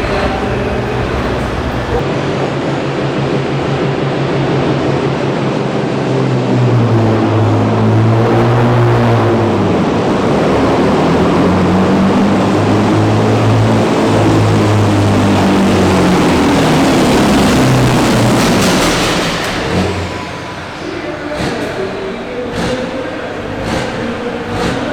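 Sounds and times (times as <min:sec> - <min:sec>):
diesel truck engine under load: 0:00.0 - 0:02.0, 0:06.3 - 0:24.9.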